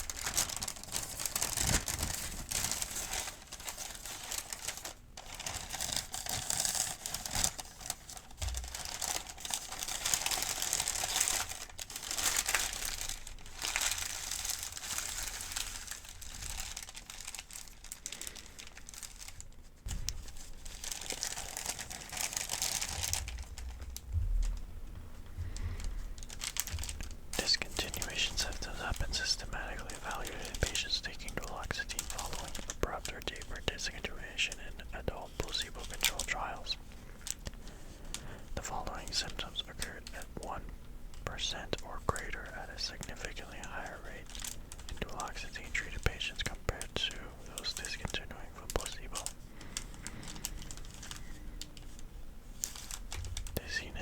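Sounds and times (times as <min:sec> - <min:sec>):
paper crinkling and rustling: 0:00.0 - 0:54.0.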